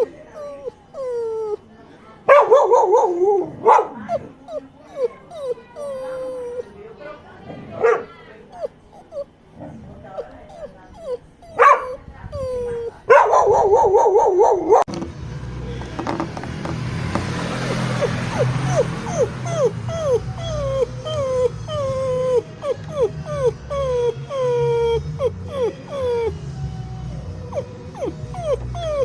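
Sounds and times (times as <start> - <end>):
dog whimpering and whining: 0.0 - 1.8, 2.9 - 6.9, 8.0 - 14.9, 17.2 - 29.0.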